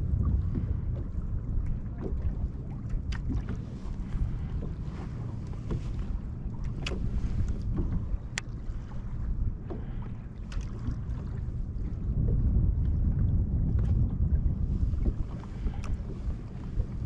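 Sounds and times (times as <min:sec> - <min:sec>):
water lapping at hull: 0:00.0 - 0:17.0
wind buffeting microphone: 0:00.0 - 0:17.0.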